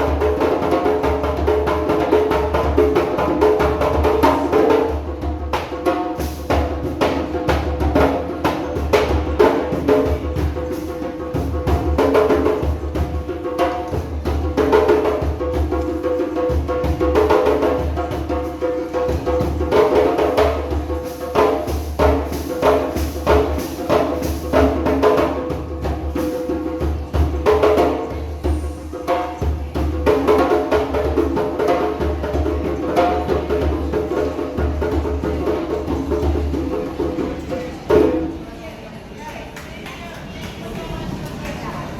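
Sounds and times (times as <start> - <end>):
hand drums playing fast rhythm: 0.0 - 38.4.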